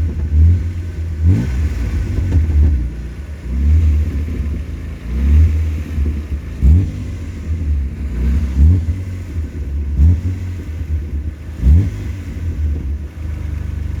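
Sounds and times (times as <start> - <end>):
car engine throttle blips: 0.0 - 14.0.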